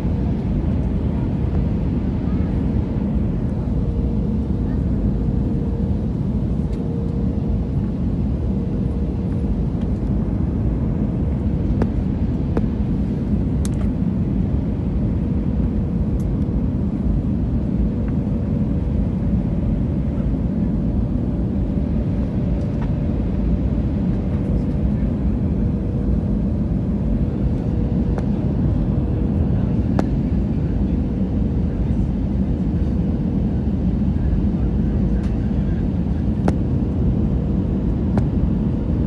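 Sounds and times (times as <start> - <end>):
airplane cabin engine roar: 0.0 - 39.0.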